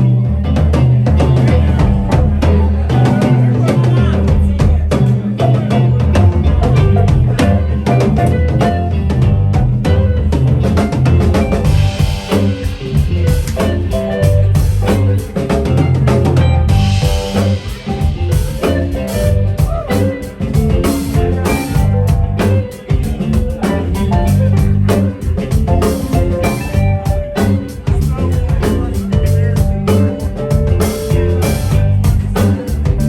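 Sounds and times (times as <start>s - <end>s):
bass guitar: 0.0s - 33.0s
drum kit: 0.0s - 33.0s
guitar: 0.0s - 33.0s.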